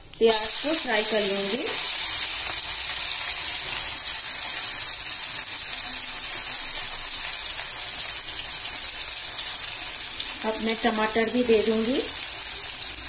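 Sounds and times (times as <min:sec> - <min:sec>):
onions sizzling in hot oil: 0:00.1 - 0:13.0.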